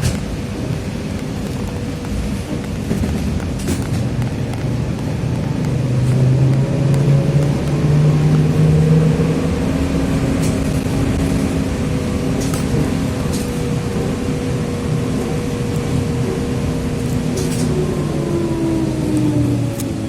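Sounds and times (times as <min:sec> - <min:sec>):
trolleybus motor whine: 0:00.0 - 0:20.0
trolleybus running rumble: 0:00.0 - 0:20.0.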